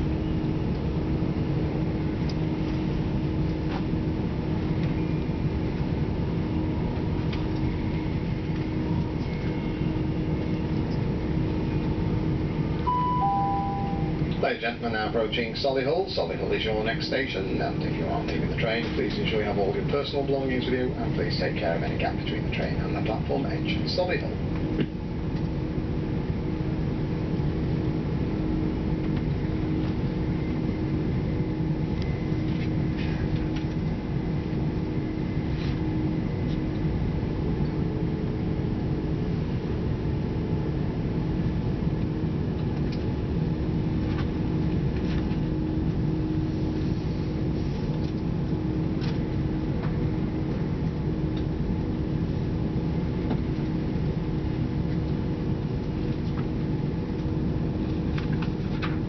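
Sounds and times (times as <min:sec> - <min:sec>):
constant hum: 0:00.0 - 0:59.0
train interior rumble: 0:00.0 - 0:59.0.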